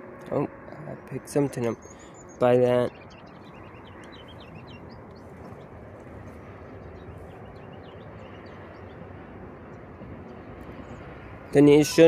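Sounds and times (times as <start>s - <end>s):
outdoor background noise: 0.0s - 12.0s
small birds chirping: 0.7s - 12.0s.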